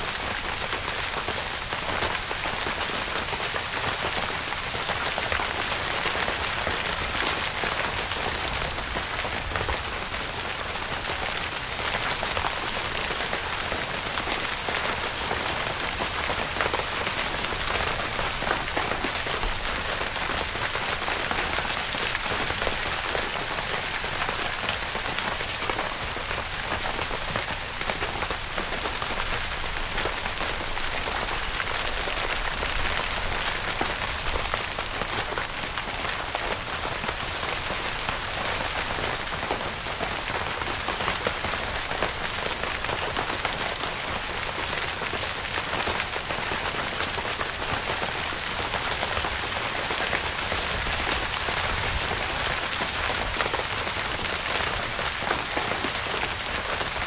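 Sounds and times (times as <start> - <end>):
rain on a tent: 0.0 - 57.0.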